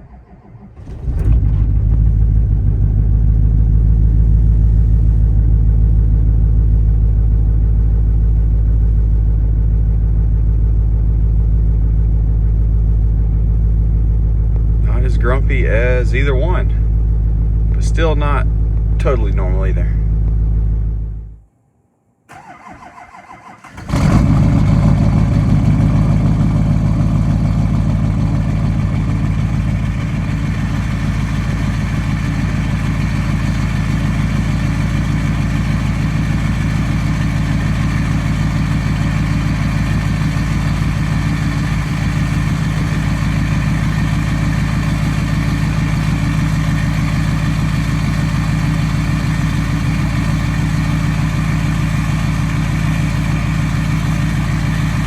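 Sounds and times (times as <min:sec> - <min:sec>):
diesel engine idling: 0:00.0 - 0:21.4, 0:22.3 - 0:55.0.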